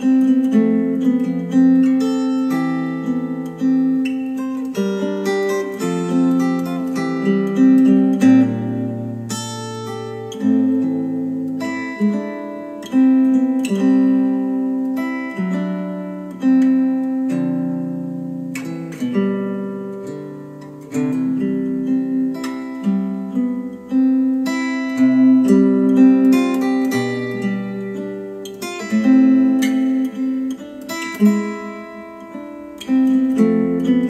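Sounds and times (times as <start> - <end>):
acoustic guitar music: 0.0 - 34.0.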